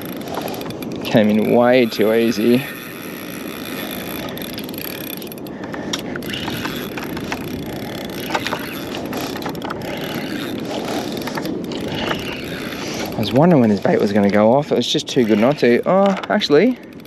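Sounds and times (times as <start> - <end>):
fishing reel gear whir: 0.0 - 17.0
small reel clicks: 0.0 - 17.0.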